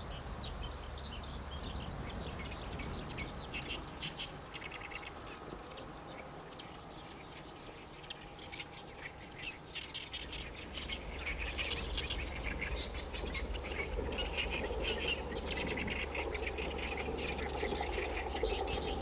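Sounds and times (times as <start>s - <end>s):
birds chirping: 0.0s - 19.0s
low steady rumble: 0.0s - 19.0s.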